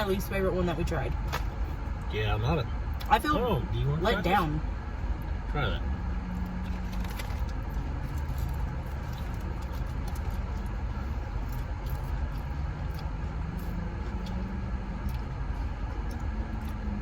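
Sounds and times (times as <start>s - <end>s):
car engine idling: 0.0s - 17.0s
faint wavering hum: 0.0s - 17.0s.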